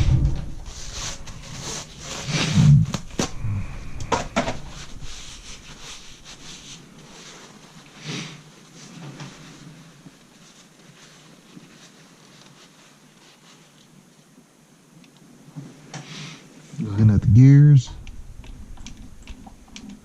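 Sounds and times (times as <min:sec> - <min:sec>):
rustling: 0:00.0 - 0:14.4, 0:16.7 - 0:20.0.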